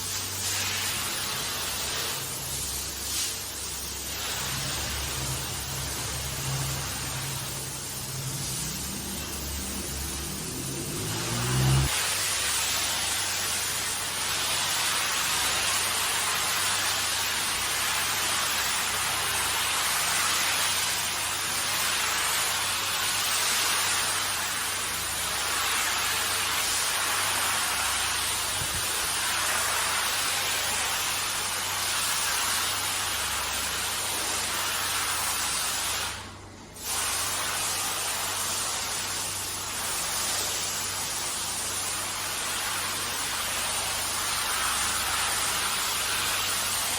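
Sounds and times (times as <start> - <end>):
water sprayer hissing: 0.0 - 46.9.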